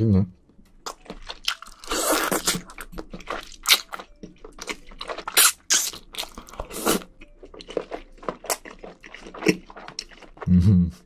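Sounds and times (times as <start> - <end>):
close chewing and crunching: 0.8 - 11.0.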